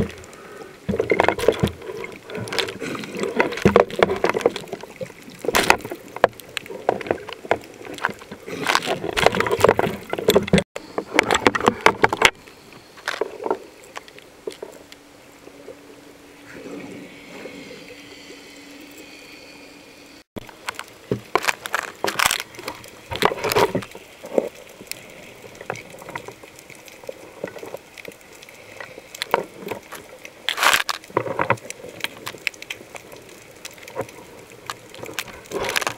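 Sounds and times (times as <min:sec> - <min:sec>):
water sloshing and bubbling: 0:00.0 - 0:35.9.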